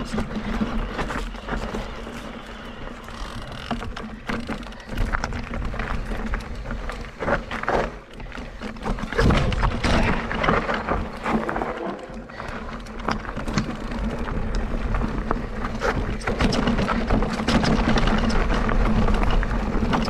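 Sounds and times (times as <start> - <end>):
bike knocking and rattling: 0.0 - 20.0.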